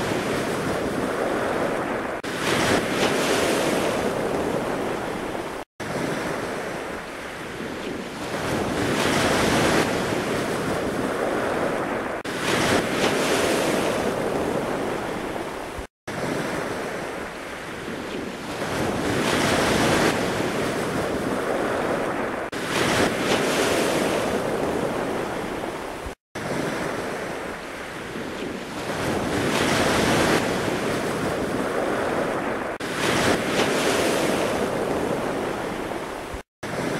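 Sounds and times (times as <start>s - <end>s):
ocean surf washing in: 0.0s - 36.9s.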